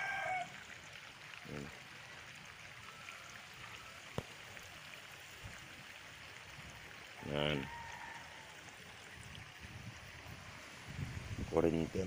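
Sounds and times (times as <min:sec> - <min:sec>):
water flowing from a pipe: 0:00.0 - 0:12.0.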